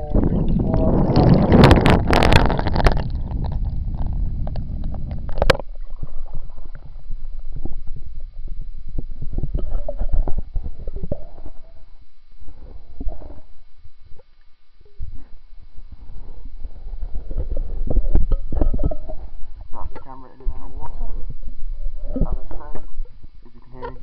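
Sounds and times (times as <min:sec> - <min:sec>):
water sloshing and bubbling: 0:00.0 - 0:24.0.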